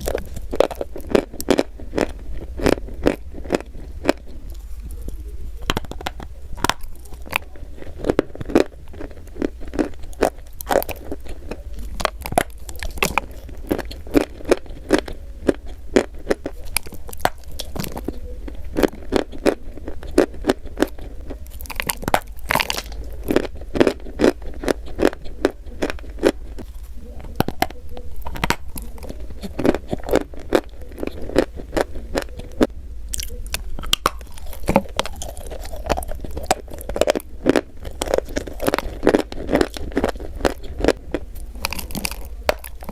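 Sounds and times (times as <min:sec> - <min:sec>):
chalk being chewed: 0:00.0 - 0:42.9.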